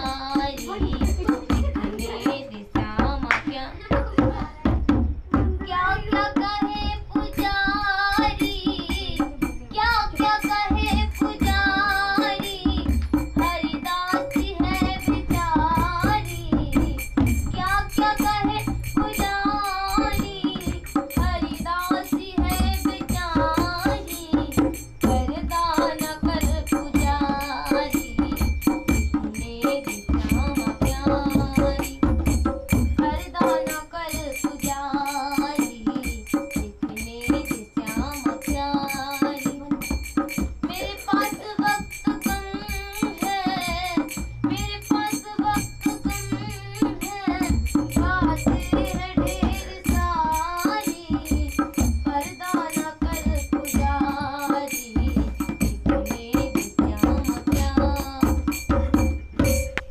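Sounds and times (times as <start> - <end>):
girl singing: 0.0 - 59.5.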